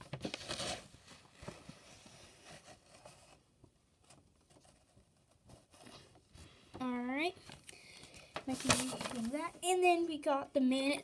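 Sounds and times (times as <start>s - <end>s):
paper rustling and crinkling: 0.0s - 9.7s.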